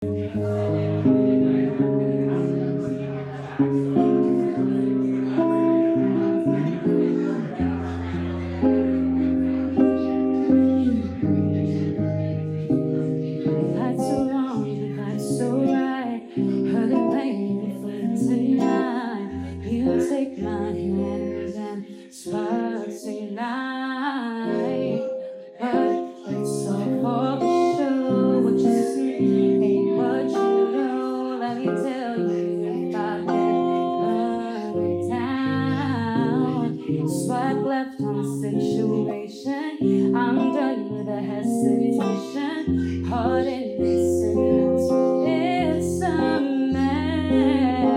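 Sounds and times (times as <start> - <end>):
live band with guitar: 0.0 - 47.9
woman singing: 0.0 - 47.9.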